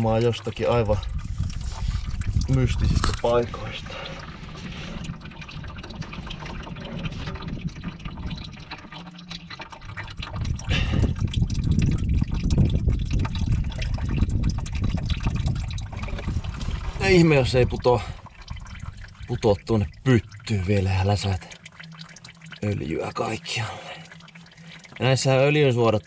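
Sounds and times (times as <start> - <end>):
oil trickling and dripping: 0.0 - 26.0.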